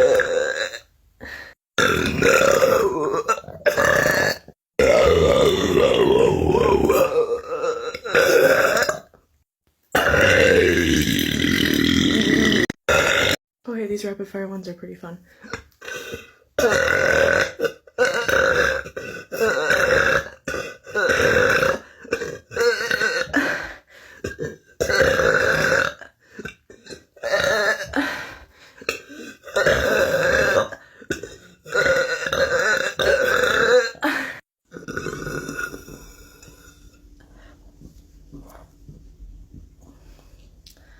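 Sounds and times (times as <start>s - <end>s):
person burping: 0.0s - 9.2s, 9.9s - 13.4s, 15.5s - 28.2s, 28.8s - 37.0s.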